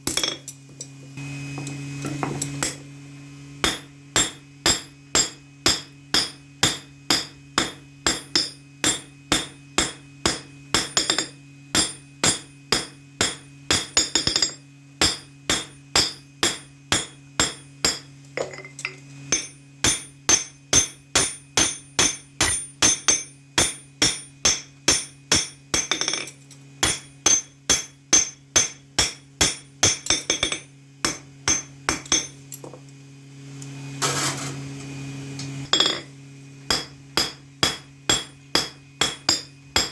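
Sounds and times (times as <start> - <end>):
steady low hum: 0.0 - 39.9
hammer ringing on anvil: 3.6 - 32.4, 35.7 - 36.1, 36.7 - 39.9.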